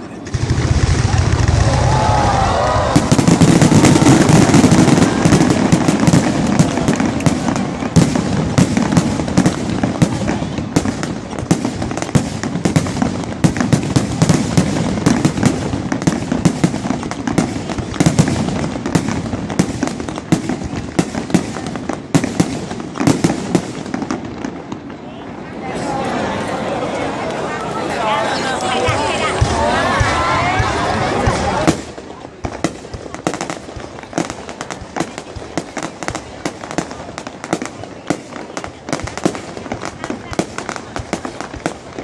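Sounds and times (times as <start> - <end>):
fireworks cracking and popping: 0.0 - 26.5, 27.1 - 42.0.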